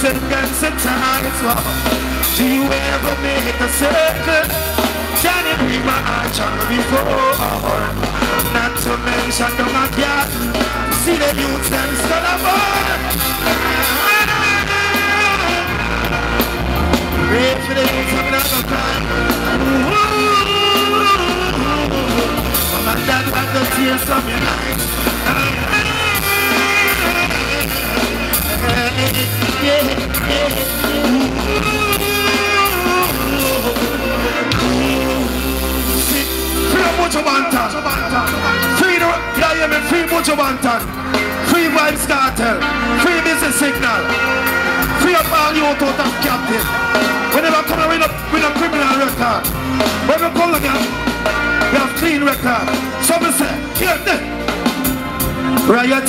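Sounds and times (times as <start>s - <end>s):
man singing into microphone: 0.0s - 16.4s, 17.1s - 54.3s
live reggae music: 0.0s - 56.0s.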